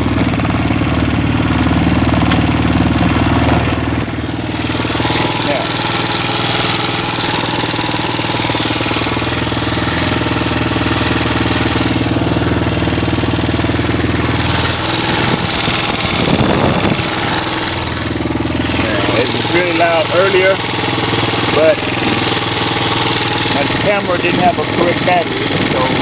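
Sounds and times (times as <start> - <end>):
atv engine running: 0.0 - 26.0
rapid engine tapping and rattling: 0.0 - 26.0.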